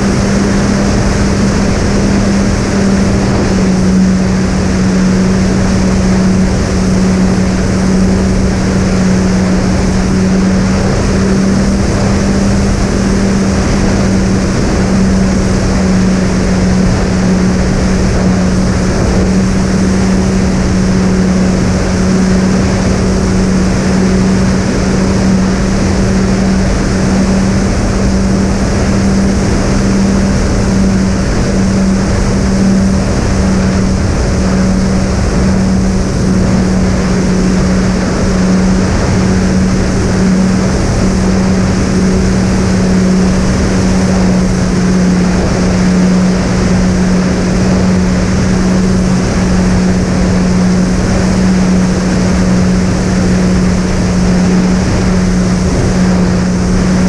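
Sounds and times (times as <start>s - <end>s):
rushing wind: 0.0s - 57.0s.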